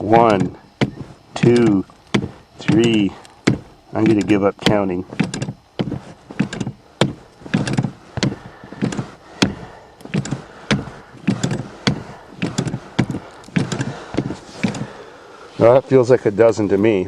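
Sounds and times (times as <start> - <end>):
accelerator pedal knocking: 0.0 - 15.0.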